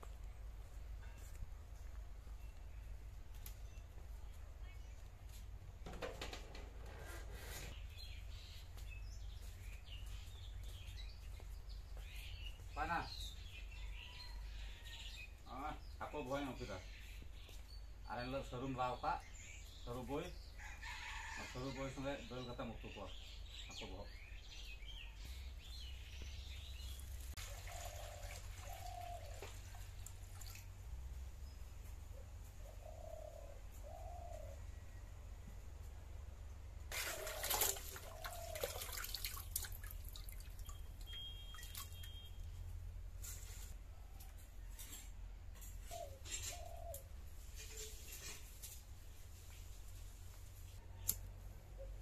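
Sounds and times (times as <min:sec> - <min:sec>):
small birds chirping: 0:01.8 - 0:05.9, 0:07.4 - 0:20.6, 0:22.0 - 0:36.0, 0:36.8 - 0:52.0.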